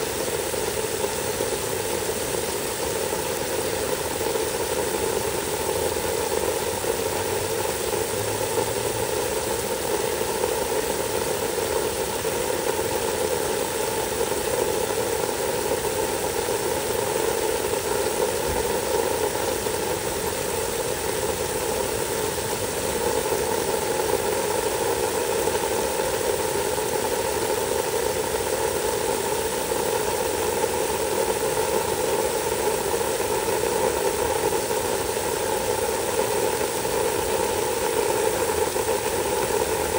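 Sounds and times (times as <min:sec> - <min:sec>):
hose spraying water: 0:00.0 - 0:39.9.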